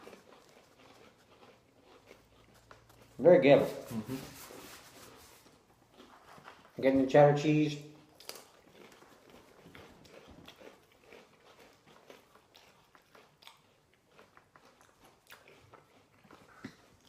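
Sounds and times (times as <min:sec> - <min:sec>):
person chewing crunchy snacks: 0:00.0 - 0:04.1, 0:05.5 - 0:06.7, 0:08.0 - 0:17.0.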